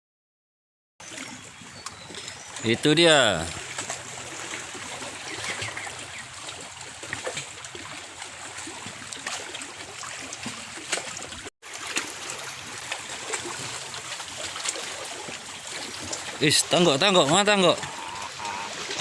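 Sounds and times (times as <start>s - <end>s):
lake water lapping: 1.0s - 19.0s.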